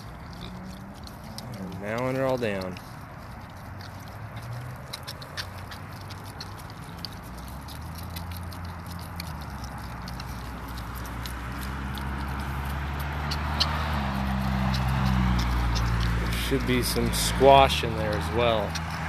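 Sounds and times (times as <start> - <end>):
pigs munching food: 0.0 - 19.0.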